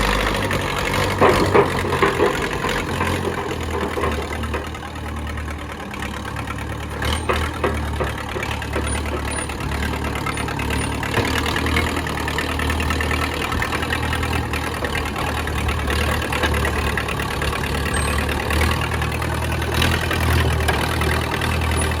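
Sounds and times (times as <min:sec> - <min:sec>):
bulldozer engine idling: 0:00.0 - 0:22.0.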